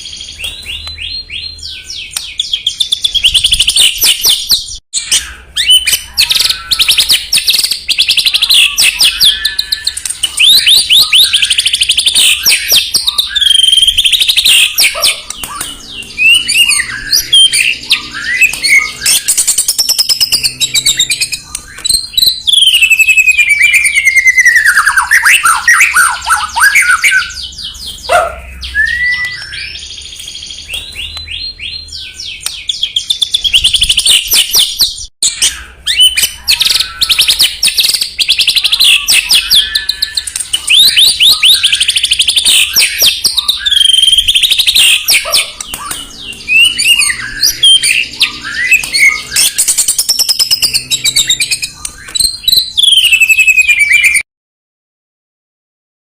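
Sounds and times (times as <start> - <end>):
songbird singing whistles and trills: 0.0 - 54.2.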